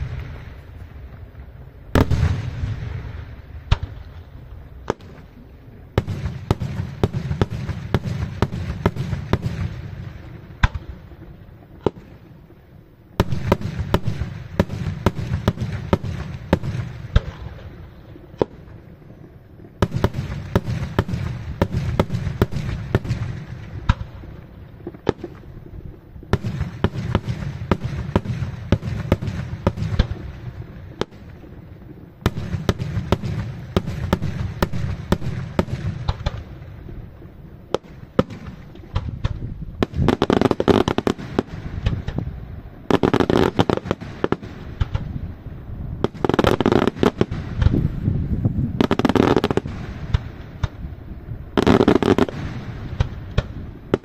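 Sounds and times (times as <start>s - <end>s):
fireworks bursting in sharp bangs: 0.0s - 54.0s.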